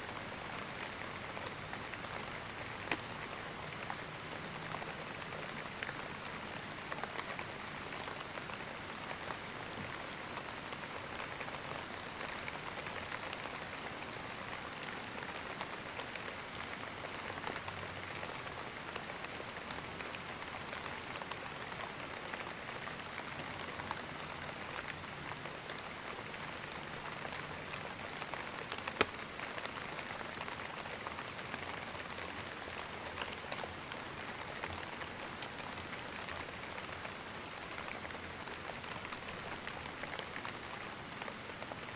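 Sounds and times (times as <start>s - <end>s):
steady rainfall: 0.0s - 41.9s.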